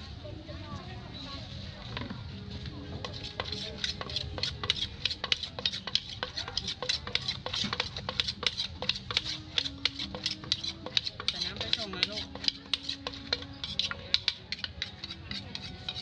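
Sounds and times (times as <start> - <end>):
pestle pounding in a mortar: 3.0 - 16.0
spoon turning food: 3.0 - 16.0.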